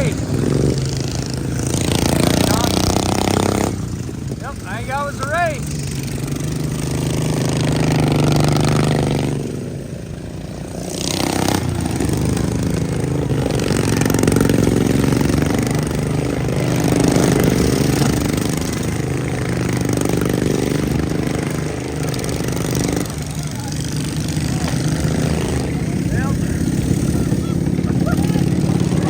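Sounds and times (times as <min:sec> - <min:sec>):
lawn mower engines revving: 0:00.0 - 0:29.0.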